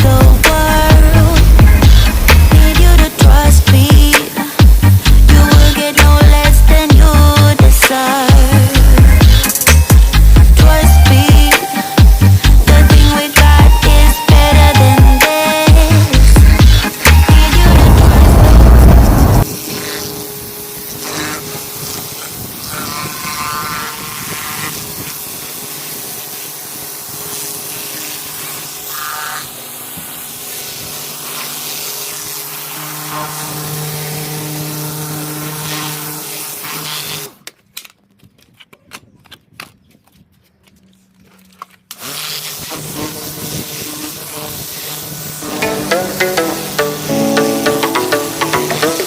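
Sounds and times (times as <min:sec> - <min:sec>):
pressure washer motor humming: 0:00.0 - 0:37.3, 0:42.0 - 0:49.0
water jet hissing on paving: 0:00.0 - 0:37.4, 0:41.9 - 0:49.0.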